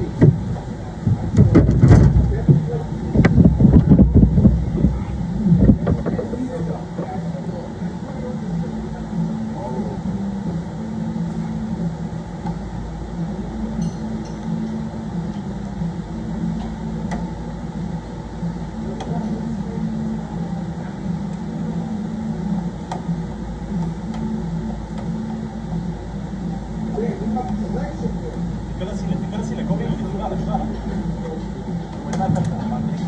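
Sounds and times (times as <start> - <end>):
fan humming: 0.0 - 33.0.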